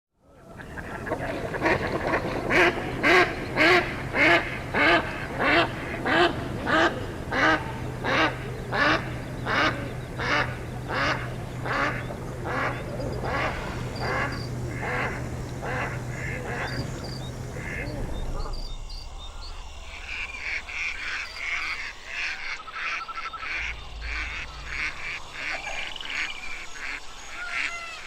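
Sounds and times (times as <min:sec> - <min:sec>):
steady low hum: 0:00.3 - 0:28.0
duck quacking: 0:00.6 - 0:18.6, 0:20.2 - 0:27.7.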